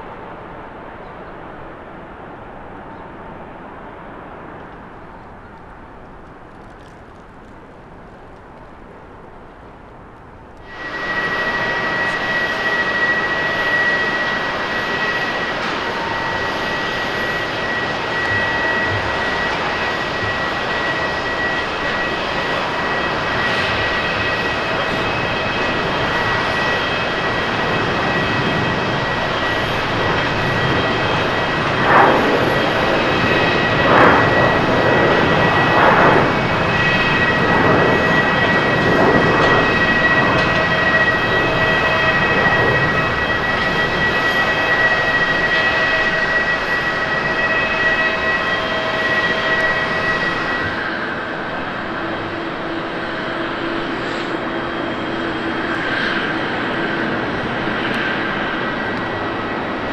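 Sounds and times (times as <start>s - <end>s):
jet engines at takeoff: 0.0s - 59.9s.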